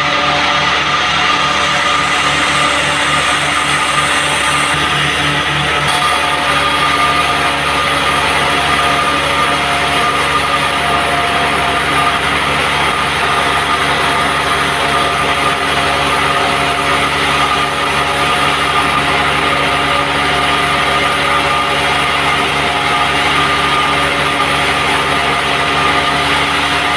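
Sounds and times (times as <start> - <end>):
band sawmill machine drone: 0.0 - 26.9.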